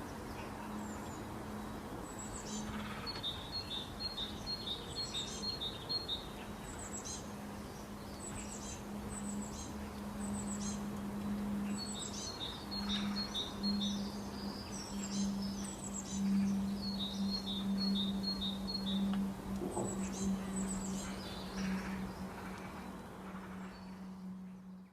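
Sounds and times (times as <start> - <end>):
steady low hum: 0.0 - 24.9
small bird chirping: 2.2 - 22.8.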